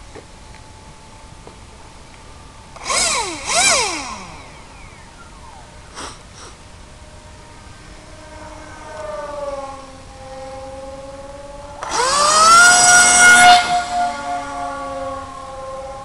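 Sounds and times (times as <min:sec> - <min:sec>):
electric motor and propeller whining: 0:00.0 - 0:16.0.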